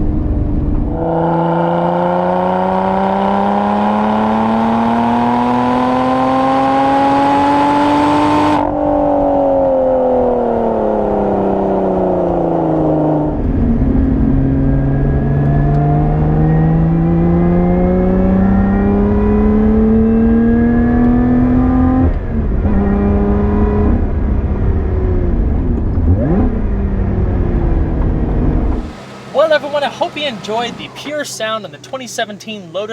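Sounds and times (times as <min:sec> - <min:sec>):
car engine accelerating: 0:00.0 - 0:32.9
wind and road rumble: 0:00.0 - 0:32.9.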